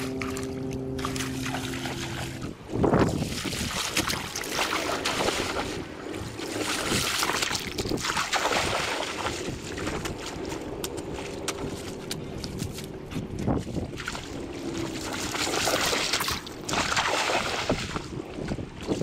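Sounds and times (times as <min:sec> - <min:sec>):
muddy water splashing: 0:00.0 - 0:19.0
wind buffeting microphone: 0:00.0 - 0:19.0.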